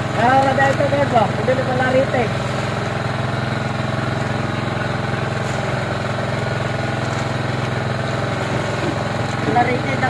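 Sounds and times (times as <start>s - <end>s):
small engine idling: 0.0s - 10.0s.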